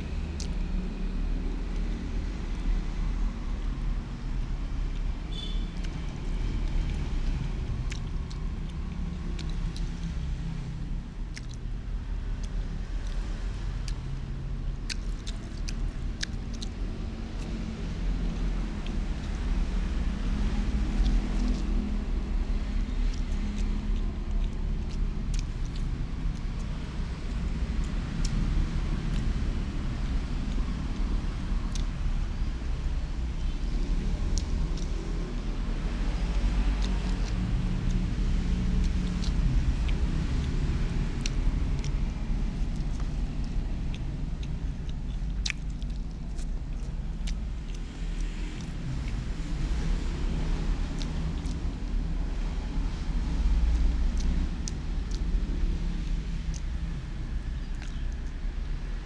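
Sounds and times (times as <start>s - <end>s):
low engine-like rumble: 0.0s - 59.0s
mouth chewing clicks: 0.0s - 59.0s.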